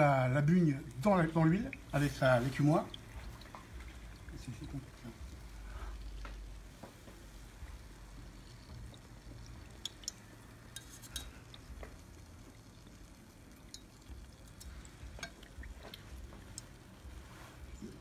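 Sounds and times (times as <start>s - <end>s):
dough bubbling in oil: 0.0s - 18.0s.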